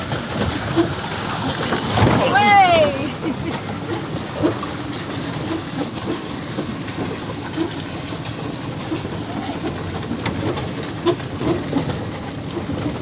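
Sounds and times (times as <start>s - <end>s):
off-road vehicle rumbling: 0.0s - 13.0s.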